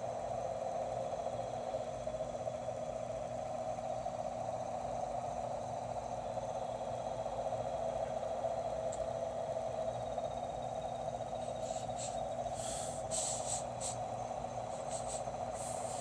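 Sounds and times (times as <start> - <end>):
steady drone: 0.0 - 16.0.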